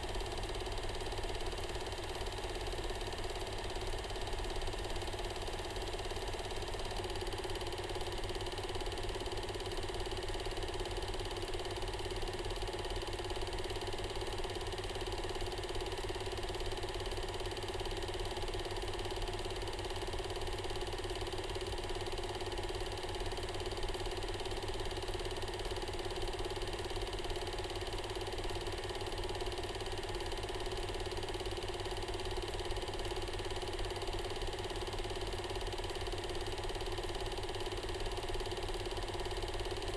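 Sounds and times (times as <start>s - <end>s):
film projector whirring and clattering: 0.0s - 39.9s.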